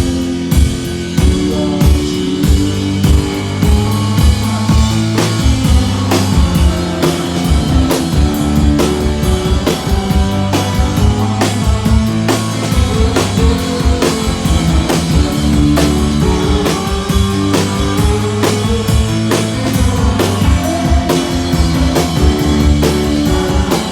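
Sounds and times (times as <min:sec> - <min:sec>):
drum kit beat: 0:00.0 - 0:23.9
keyboard chords: 0:00.0 - 0:23.9.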